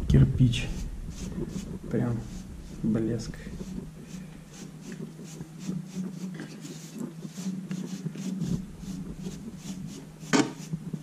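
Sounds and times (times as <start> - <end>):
steady low hum: 0.0 - 11.0
hand tool scraping plaster: 0.7 - 10.8.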